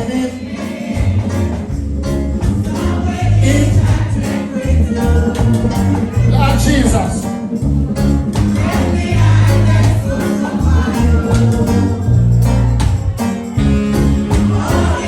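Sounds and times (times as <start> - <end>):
church band music: 0.0 - 15.0.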